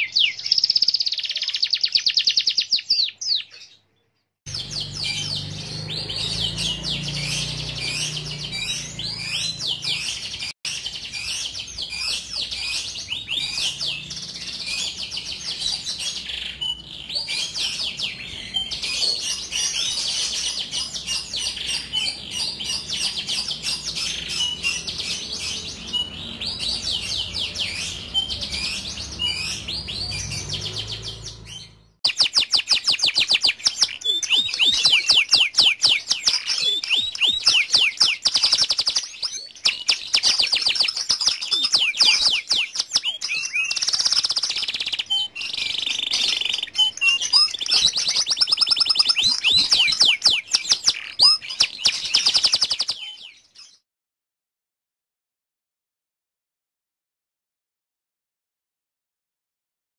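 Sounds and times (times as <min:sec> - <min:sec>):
canary singing trills: 0:00.0 - 0:53.8.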